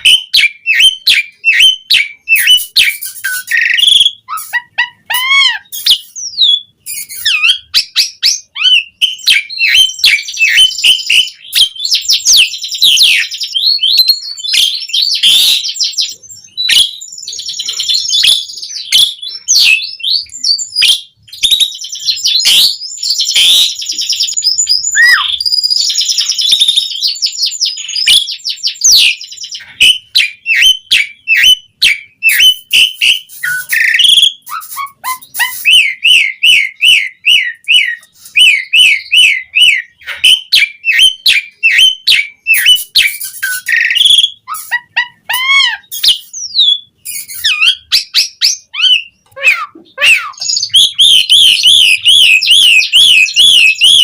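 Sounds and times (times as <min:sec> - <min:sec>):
starling whistling and chirping: 0:00.0 - 0:54.0.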